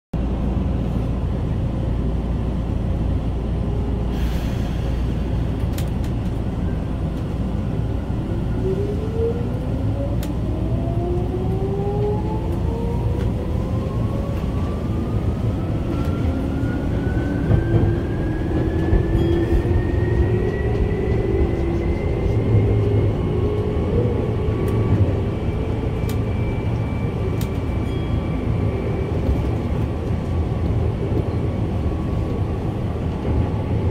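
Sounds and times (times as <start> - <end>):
low rumble of train on rails: 0.1 - 33.9.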